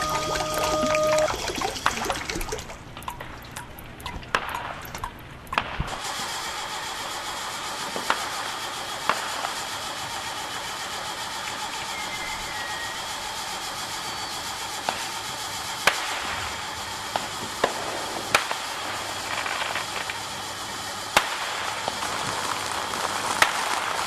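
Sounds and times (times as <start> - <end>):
engine running: 0.0 - 2.3, 6.0 - 24.0.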